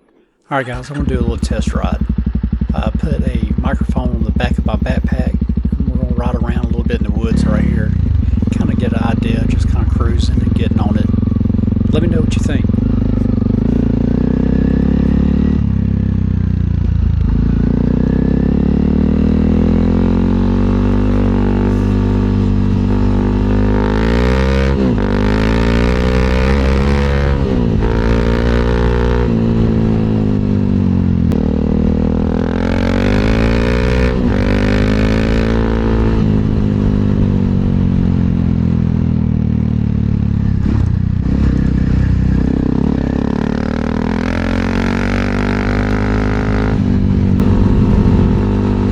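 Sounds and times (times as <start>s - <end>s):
motorcycle engine exhaust: 0.8s - 48.9s.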